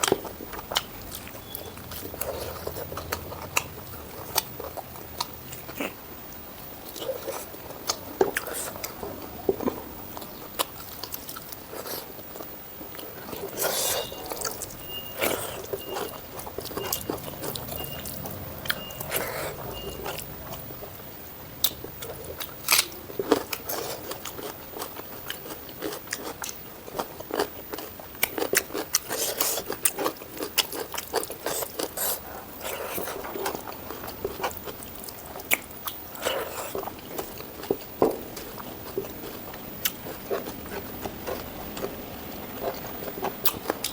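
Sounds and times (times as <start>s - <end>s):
crunching bites and chewing: 0.0s - 43.9s.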